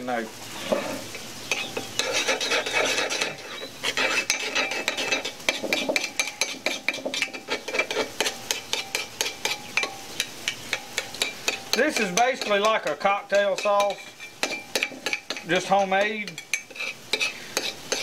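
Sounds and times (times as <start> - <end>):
spoon stirring in ceramic bowl: 1.5 - 13.0, 13.6 - 15.5, 16.3 - 18.0.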